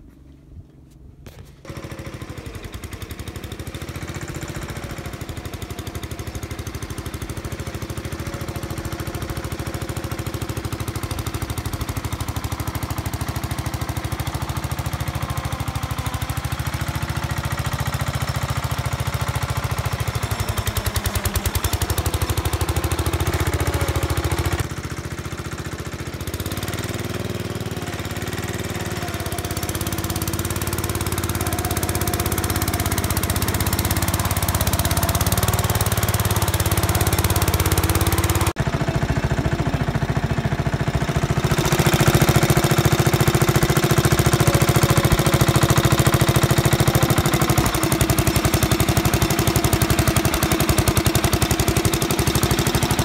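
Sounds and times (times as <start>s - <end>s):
small gasoline engine knocking: 1.6s - 53.0s.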